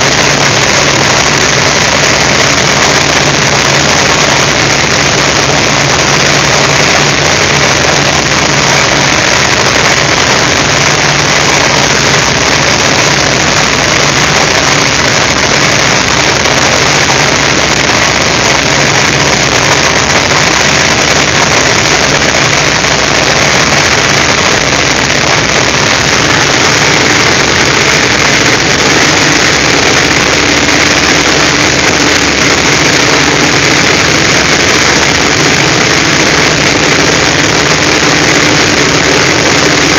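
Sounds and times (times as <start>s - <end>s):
radial engine and propeller drone: 0.0s - 39.9s.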